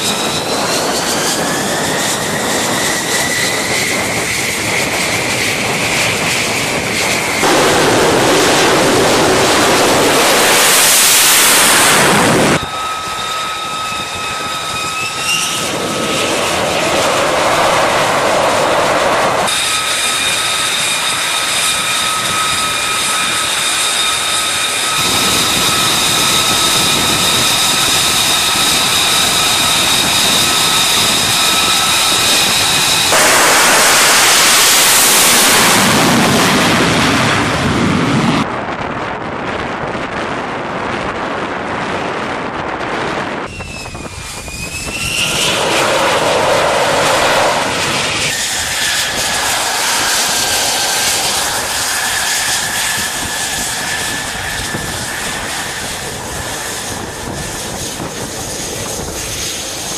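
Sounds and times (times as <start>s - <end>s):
jet engine turbine whine: 0.0s - 59.9s.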